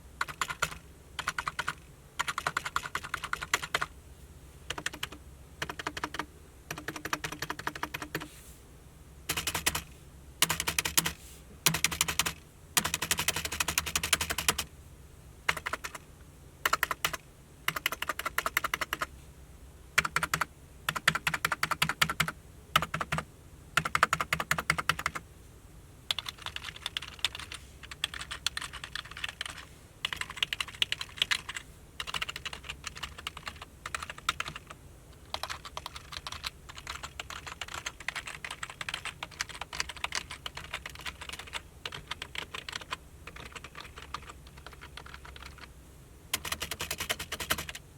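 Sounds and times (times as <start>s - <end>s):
keyboard typing: 0.2s - 3.9s, 4.7s - 8.3s, 9.3s - 14.7s, 15.5s - 16.0s, 16.6s - 19.1s, 20.0s - 23.2s, 23.8s - 25.2s, 26.1s - 45.7s, 46.3s - 47.8s.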